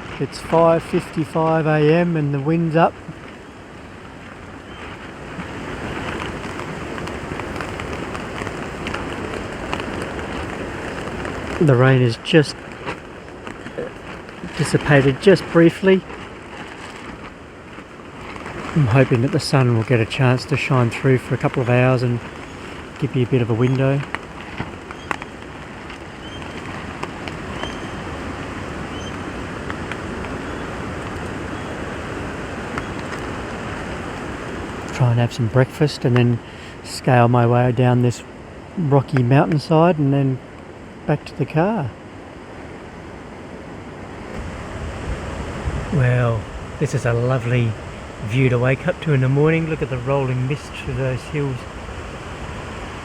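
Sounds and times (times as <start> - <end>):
heavier raindrops tapping: 0.0 - 38.1, 44.3 - 53.0
steady rain: 0.0 - 53.0
wind: 0.0 - 53.0.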